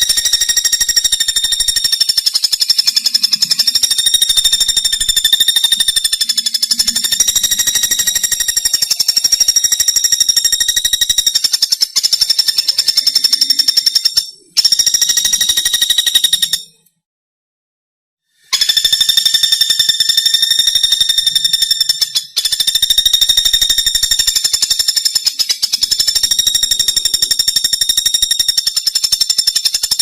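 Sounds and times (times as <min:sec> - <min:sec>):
woodpecker rattling trill: 0:00.0 - 0:16.9, 0:18.5 - 0:30.0.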